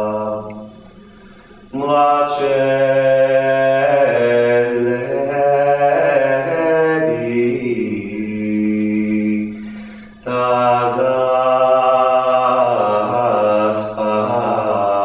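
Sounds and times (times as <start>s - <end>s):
low sustained tone: 0.0s - 15.0s
voice chanting long notes: 0.0s - 15.0s.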